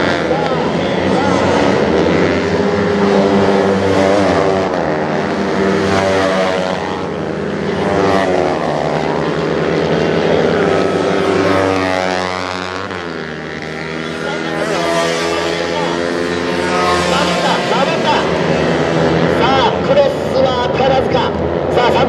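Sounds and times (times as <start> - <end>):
two-stroke minibike engines revving: 0.0 - 22.0.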